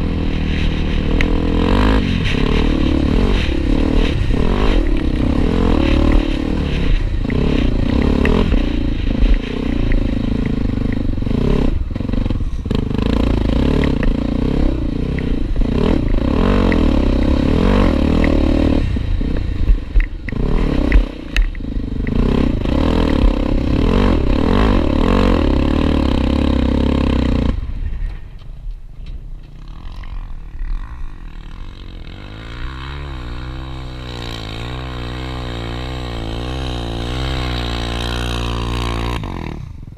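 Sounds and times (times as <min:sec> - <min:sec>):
motorcycle engine revving: 0:00.0 - 0:28.2, 0:29.5 - 0:39.9.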